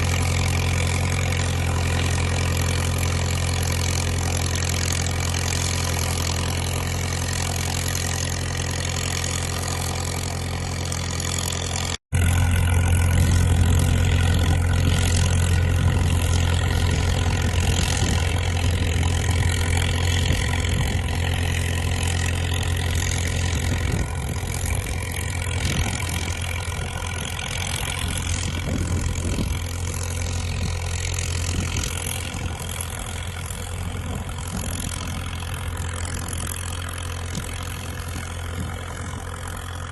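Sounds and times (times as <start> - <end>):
dozer diesel engine running: 0.0 - 39.9.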